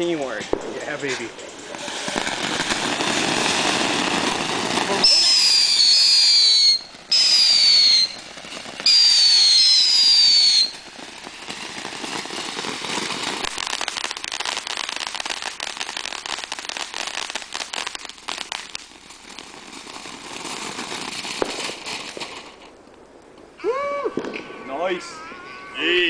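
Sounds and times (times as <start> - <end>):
firework crackling: 0.0 - 26.0
firework whistles: 1.7 - 22.7, 23.6 - 26.0.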